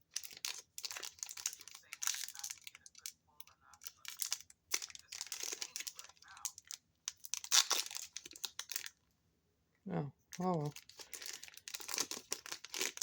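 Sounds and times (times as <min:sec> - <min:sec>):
foil wrapper crinkling and tearing: 0:00.0 - 0:09.0, 0:10.7 - 0:13.0.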